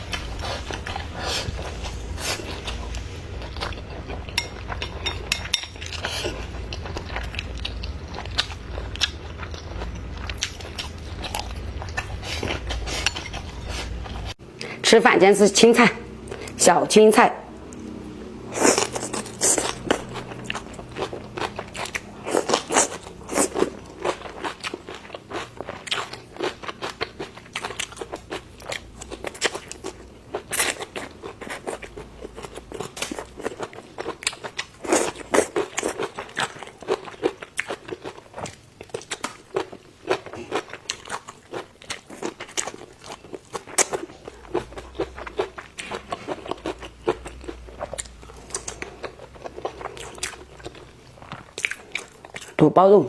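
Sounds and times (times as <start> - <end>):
person chewing crunchy food: 0.0 - 14.8, 17.5 - 52.6.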